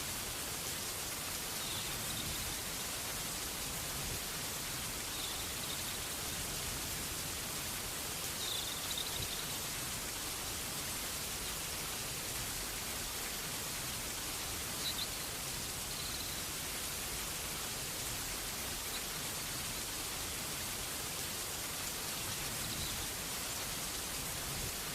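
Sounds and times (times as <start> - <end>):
steady rainfall: 0.0 - 24.9.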